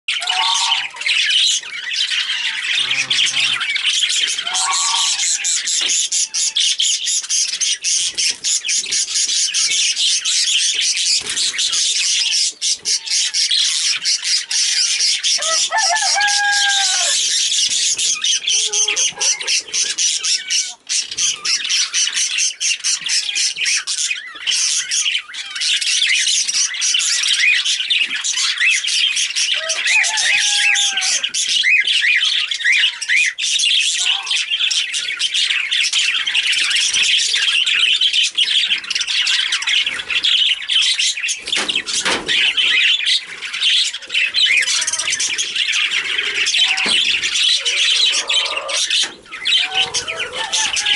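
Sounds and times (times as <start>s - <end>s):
budgerigars chattering: 0.1s - 50.9s.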